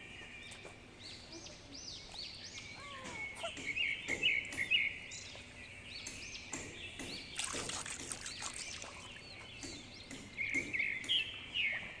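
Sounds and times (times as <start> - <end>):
birds chirping: 0.0 - 12.0
steady high background noise: 0.0 - 12.0.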